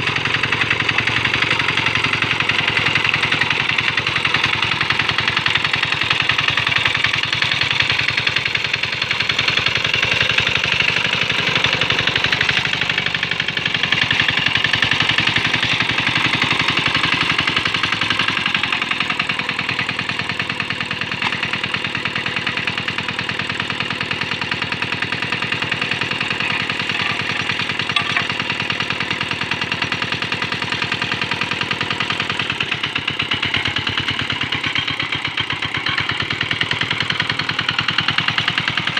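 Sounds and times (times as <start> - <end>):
small diesel engine running: 0.0 - 38.9.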